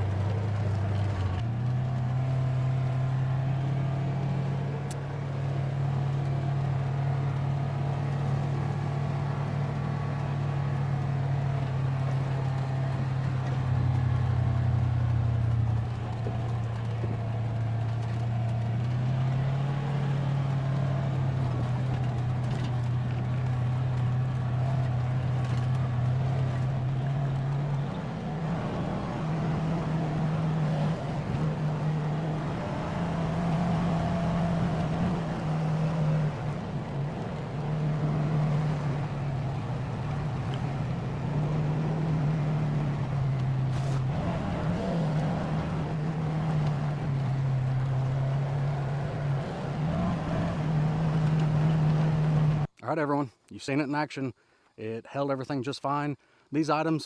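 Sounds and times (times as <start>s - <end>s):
vehicle engine running: 0.0s - 52.7s.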